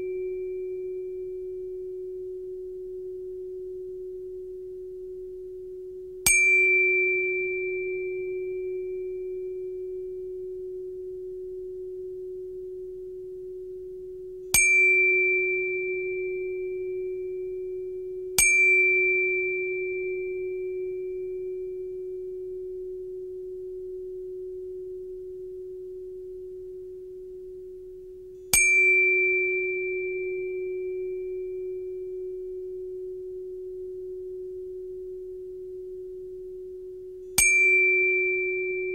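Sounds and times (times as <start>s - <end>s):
steady pure held tone: 0.0s - 38.9s.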